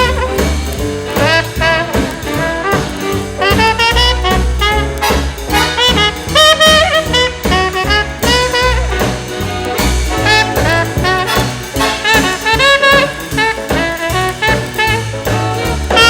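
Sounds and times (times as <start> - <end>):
swing jazz band playing: 0.0 - 16.0.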